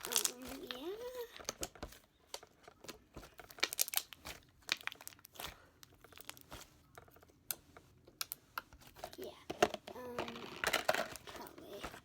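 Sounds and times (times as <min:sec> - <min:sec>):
hands squishing slime: 0:00.0 - 0:12.0.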